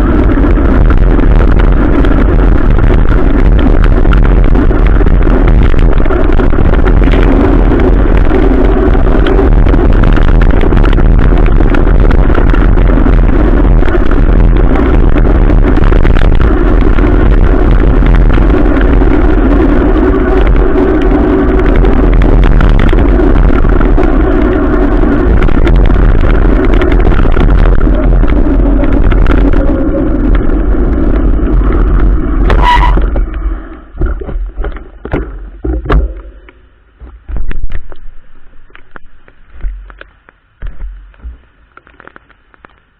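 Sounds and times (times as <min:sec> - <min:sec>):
rain ticks: 0:00.0 - 0:32.4, 0:33.0 - 0:42.9
wind and road rumble: 0:00.0 - 0:42.9.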